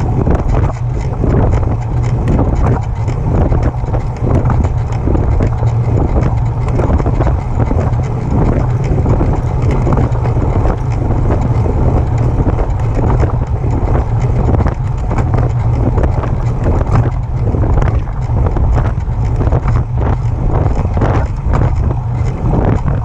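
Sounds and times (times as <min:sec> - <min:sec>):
electric bike motor and drivetrain: 0:00.0 - 0:23.0
wind rumble on microphone: 0:00.0 - 0:23.0.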